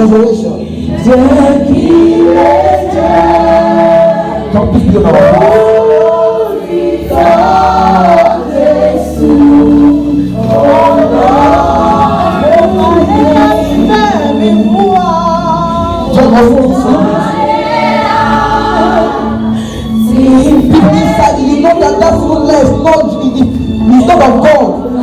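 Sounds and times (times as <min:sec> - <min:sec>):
choir singing gospel: 0:00.0 - 0:25.0.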